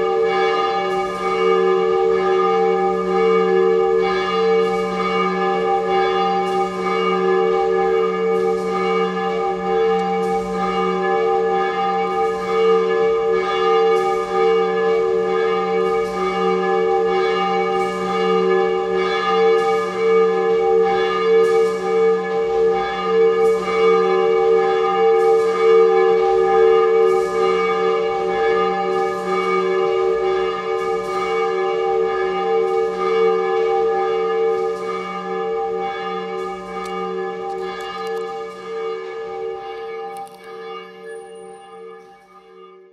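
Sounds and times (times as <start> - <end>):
church bell ringing: 0.0 - 42.9.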